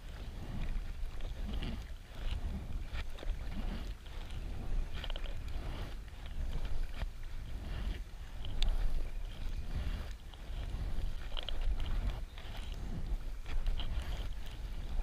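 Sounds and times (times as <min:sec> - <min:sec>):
low rumble: 0:00.0 - 0:15.0
paddle strokes in water: 0:00.0 - 0:15.0.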